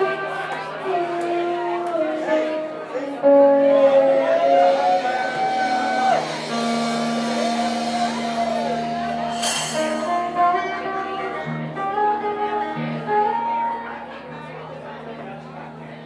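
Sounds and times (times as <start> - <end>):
resonator guitar sliding notes: 0.0 - 14.0
blues band music: 0.0 - 14.2.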